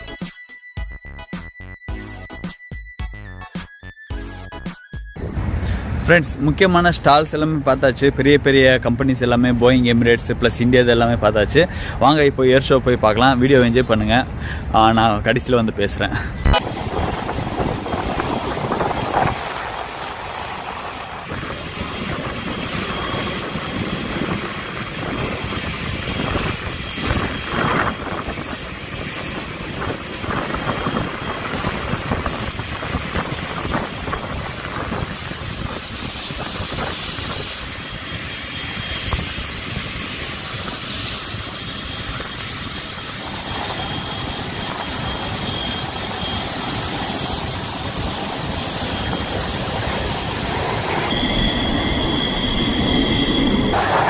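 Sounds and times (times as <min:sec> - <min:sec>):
aircraft engine rushing: 0:05.1 - 0:54.0.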